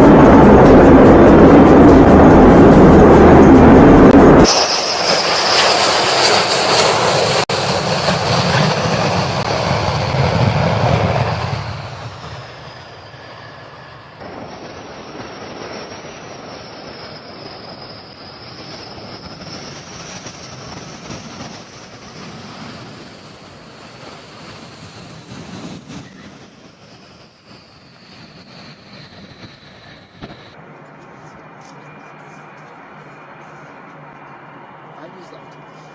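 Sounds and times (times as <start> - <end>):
jet engine roar and whine: 0.0 - 35.9.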